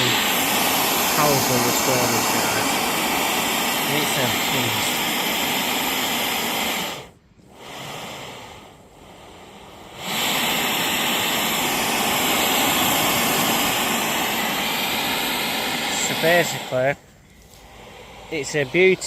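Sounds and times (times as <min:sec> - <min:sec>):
gas stove burner hissing: 0:00.0 - 0:19.0.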